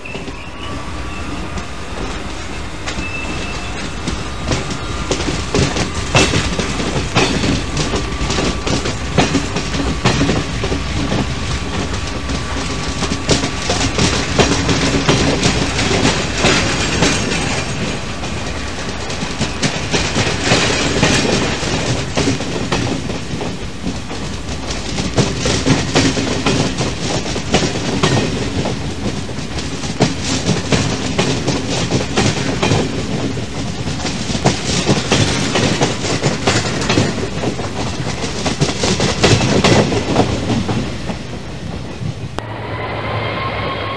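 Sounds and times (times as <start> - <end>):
wheels clacking over rail joints: 0.0 - 42.4
train rumbling on rails: 0.0 - 43.9.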